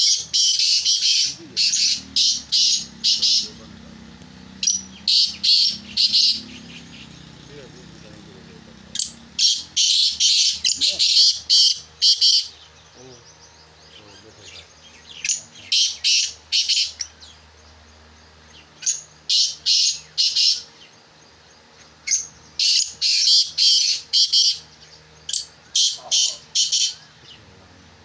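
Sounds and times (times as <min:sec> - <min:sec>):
francolins calling harshly: 0:00.0 - 0:28.0.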